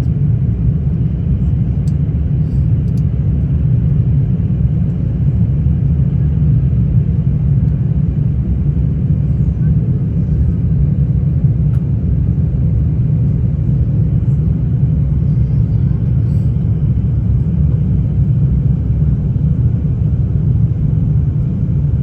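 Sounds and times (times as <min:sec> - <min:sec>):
airliner low rumble: 0:00.0 - 0:22.0.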